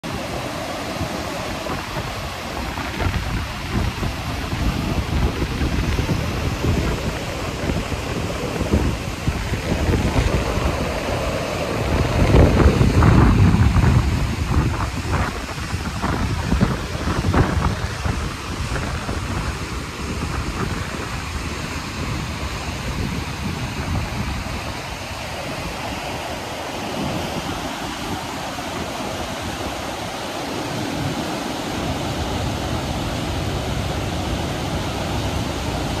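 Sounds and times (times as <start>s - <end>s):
river rapids rushing: 0.0s - 36.0s
wind buffeting microphone: 0.0s - 36.0s.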